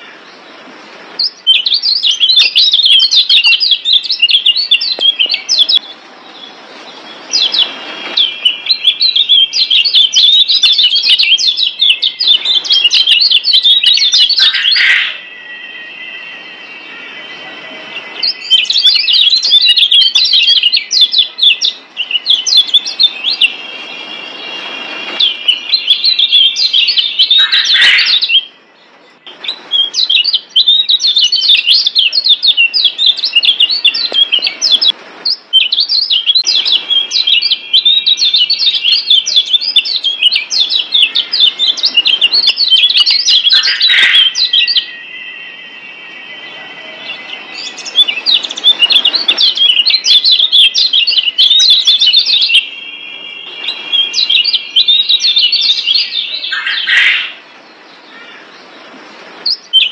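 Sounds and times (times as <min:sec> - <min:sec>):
bird twittering chirps: 0:00.0 - 0:59.9.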